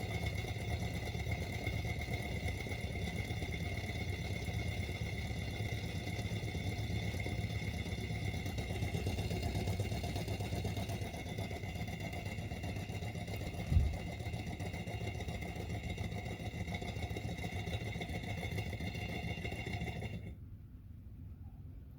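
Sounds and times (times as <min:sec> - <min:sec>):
model engine mechanical clatter: 0:00.0 - 0:20.4.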